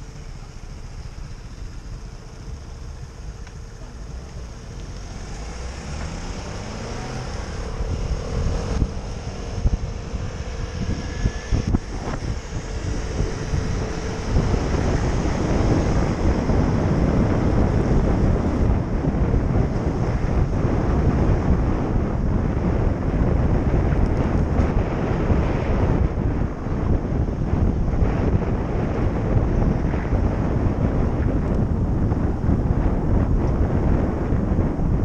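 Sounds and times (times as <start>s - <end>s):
passing road traffic: 0.0s - 35.0s
wind buffeting microphone: 0.0s - 35.0s.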